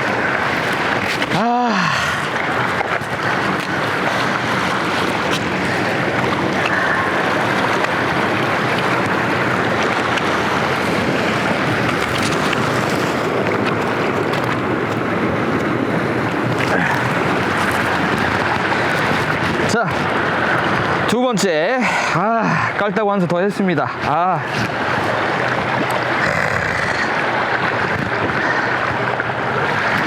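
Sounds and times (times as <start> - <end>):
wind buffeting microphone: 0.0 - 21.2, 23.8 - 30.0
sea waves breaking: 0.0 - 30.0.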